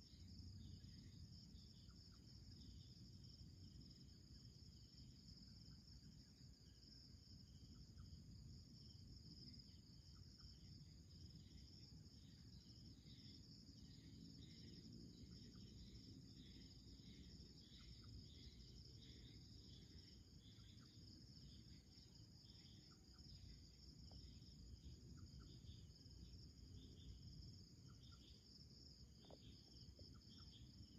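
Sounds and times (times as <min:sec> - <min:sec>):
insect chirps: 0:00.0 - 0:30.9.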